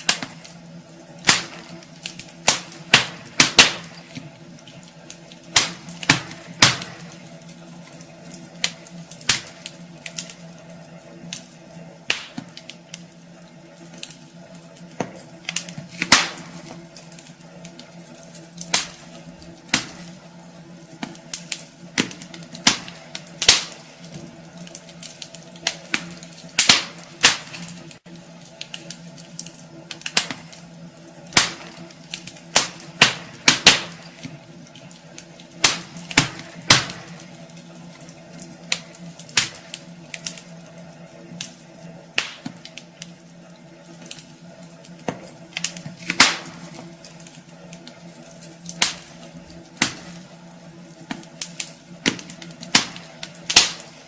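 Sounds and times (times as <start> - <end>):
wood fire crackling in fireplace: 0.0 - 54.0.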